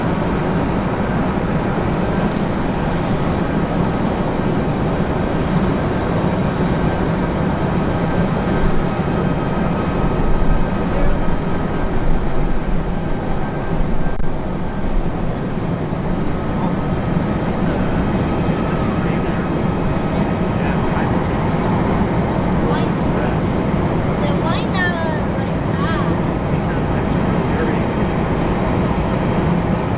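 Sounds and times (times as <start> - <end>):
jet engines rumbling: 0.0 - 29.9
faint steady tones: 0.6 - 29.9.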